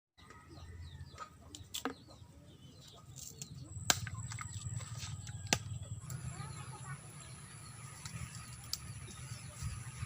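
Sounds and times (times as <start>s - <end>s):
small birds chirping: 0.2s - 10.0s.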